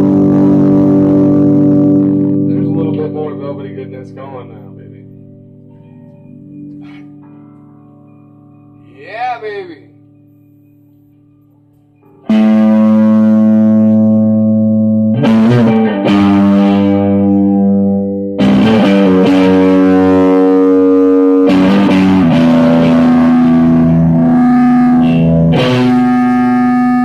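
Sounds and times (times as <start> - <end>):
electric guitar chords ringing: 0.0 - 27.0
faint amplifier hum: 0.0 - 27.0.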